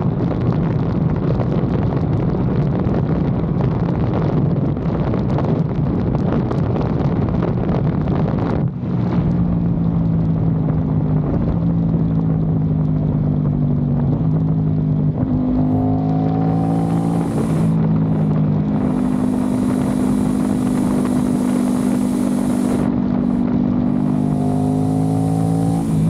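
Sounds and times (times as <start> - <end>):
motorcycle engine drone: 0.0 - 26.0
wind rush: 0.0 - 26.0.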